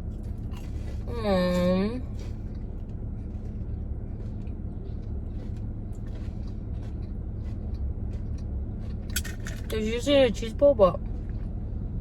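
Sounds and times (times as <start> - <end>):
person chewing crunchy food: 0.0 - 9.7
car cabin rumble: 0.0 - 12.0.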